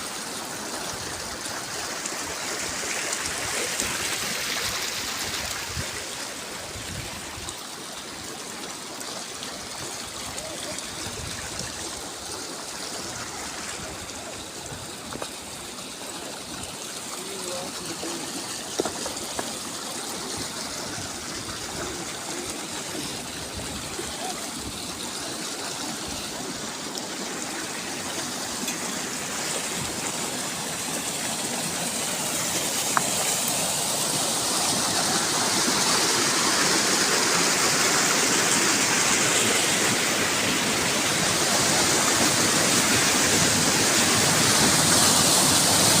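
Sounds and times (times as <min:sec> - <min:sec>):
water rushing along a channel: 0:00.0 - 0:46.0.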